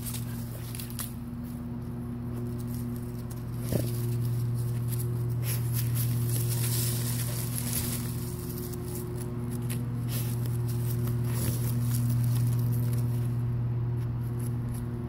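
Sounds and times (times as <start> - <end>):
paws scratching at soil: 0.0 - 15.0
steady low hum: 0.0 - 15.0.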